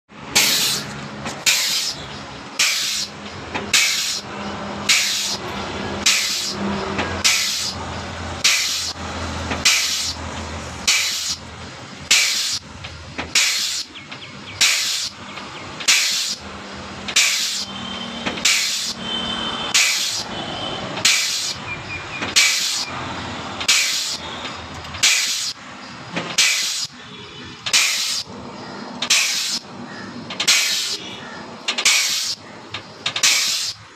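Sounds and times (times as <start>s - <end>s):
pneumatic pump exhaust hiss: 0.3s - 23.0s, 23.6s - 33.9s.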